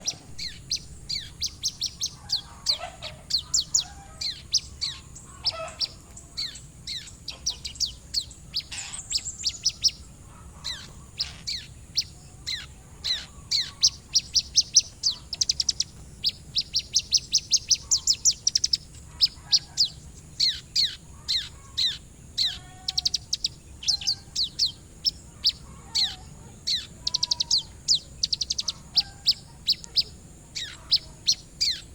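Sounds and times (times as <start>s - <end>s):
bird singing high chirps and trills: 0.0s - 31.9s.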